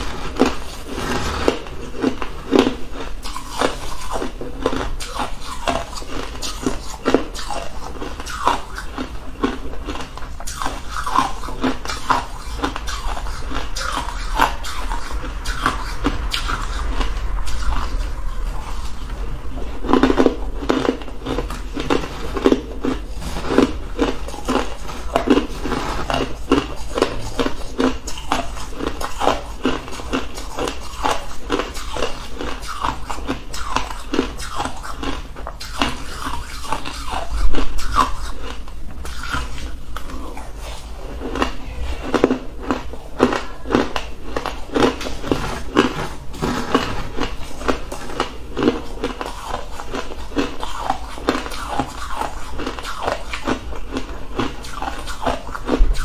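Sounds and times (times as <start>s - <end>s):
ice being chewed crunching: 0.0s - 56.0s.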